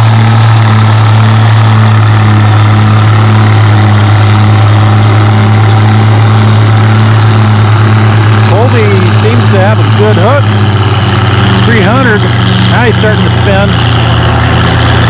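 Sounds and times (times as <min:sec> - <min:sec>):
tractor engine droning under load: 0:00.0 - 0:15.0.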